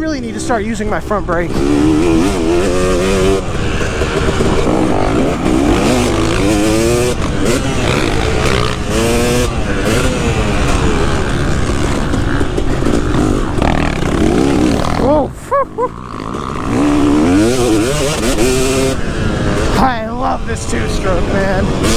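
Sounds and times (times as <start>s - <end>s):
motorbike engine revving: 0.0s - 21.9s.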